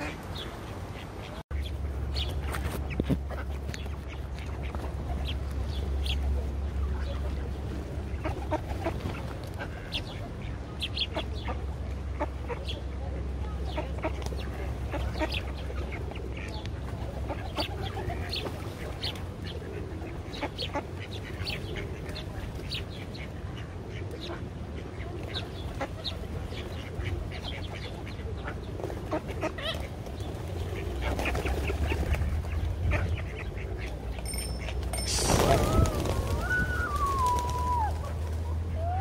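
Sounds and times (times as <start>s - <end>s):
ducks quacking: 0.0s - 5.4s, 6.9s - 12.9s, 13.6s - 34.2s.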